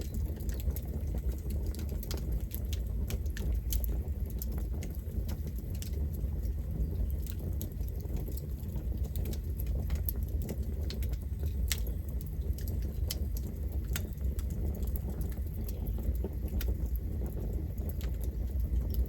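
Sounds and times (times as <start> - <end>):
campfire crackling: 0.0 - 19.0
low rumble of fire: 0.0 - 19.0.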